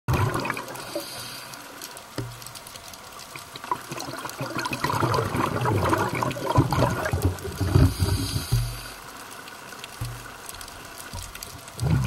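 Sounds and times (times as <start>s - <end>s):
bubbling water: 0.1s - 12.0s
crackle of fine clicks underwater: 0.1s - 12.0s.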